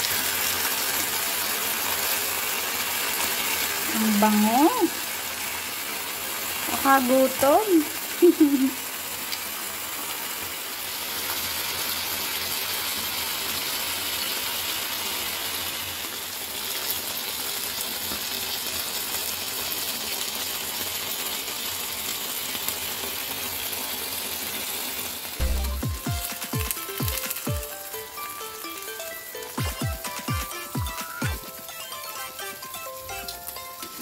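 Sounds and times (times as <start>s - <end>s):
chicken sizzling in hot oil: 0.0s - 34.0s
oil crackles and pops: 0.0s - 34.0s.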